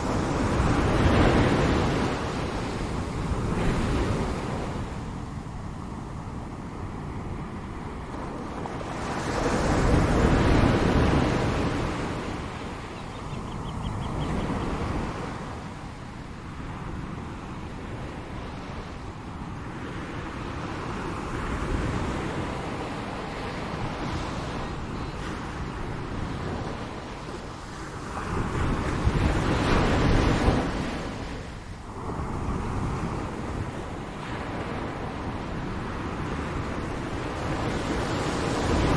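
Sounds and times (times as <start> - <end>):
ocean waves breaking: 0.0 - 38.9
wind rumble on microphone: 0.0 - 38.9.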